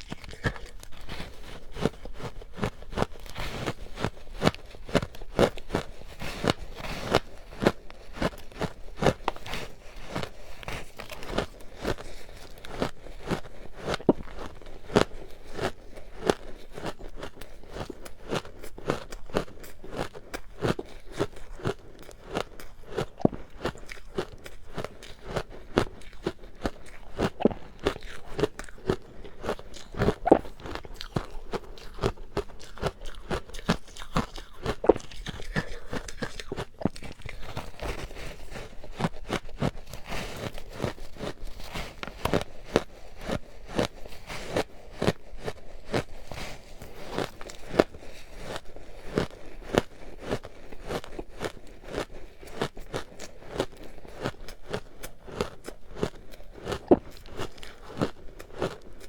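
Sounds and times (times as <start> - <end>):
chewing crunchy ice: 0.0 - 59.0.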